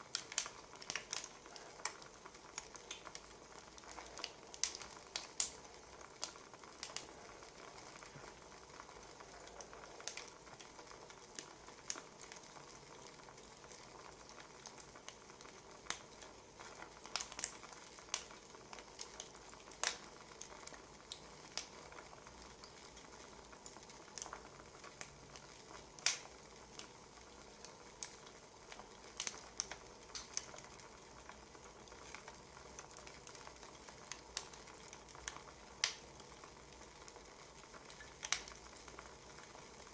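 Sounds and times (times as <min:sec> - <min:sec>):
faint steady hiss: 0:00.0 - 0:39.9
wood fire crackling: 0:00.0 - 0:39.9.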